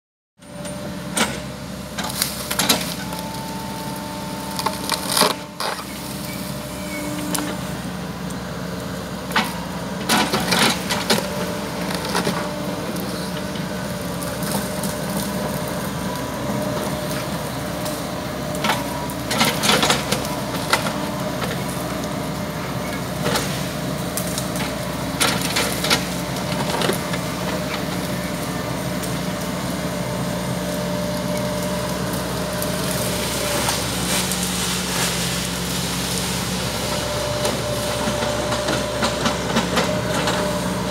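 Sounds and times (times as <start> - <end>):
excavator diesel engine running: 0.4 - 40.9.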